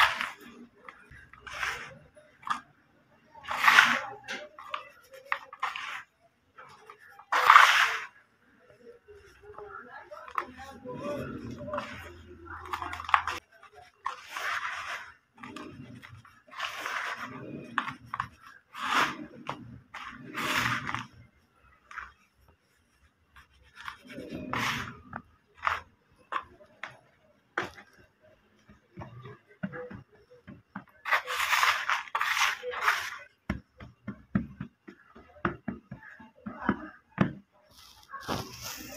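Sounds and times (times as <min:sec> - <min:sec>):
hands raking brick dust: 0:00.0 - 0:35.7.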